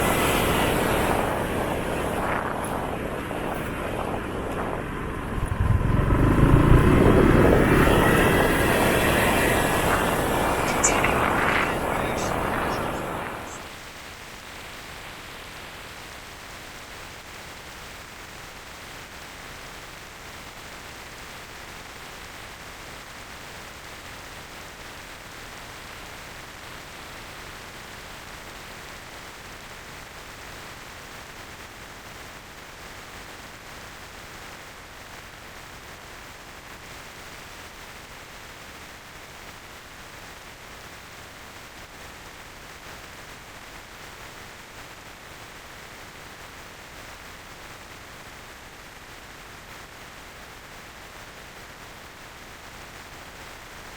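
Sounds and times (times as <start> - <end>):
wind and road noise hiss: 0.0 - 53.9.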